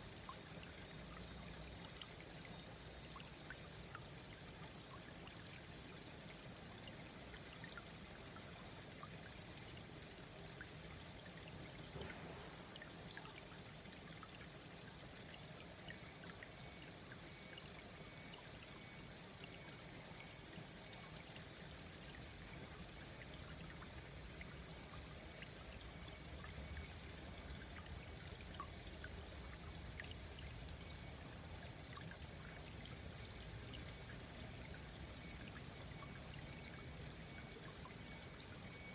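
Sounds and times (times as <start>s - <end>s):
stream babbling and trickling: 0.0s - 38.9s.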